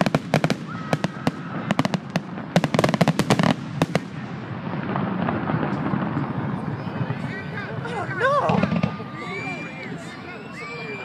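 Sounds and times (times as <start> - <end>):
fireworks bangs and crackles: 0.0 - 11.0
lingering rumble: 0.6 - 11.0.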